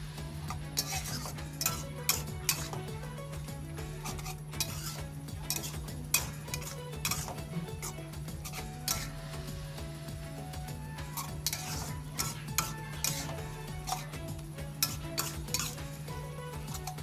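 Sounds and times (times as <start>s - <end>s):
metal spatula scraping a wok: 0.0s - 9.5s, 11.0s - 17.0s.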